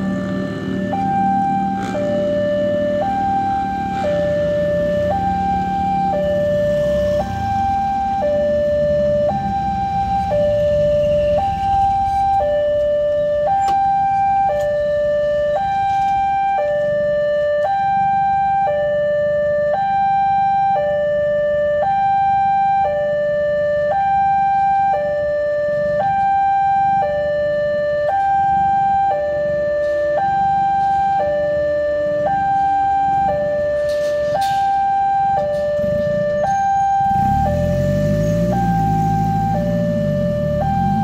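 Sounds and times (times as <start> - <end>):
two-tone crossing warning alarm: 0.0 - 41.0.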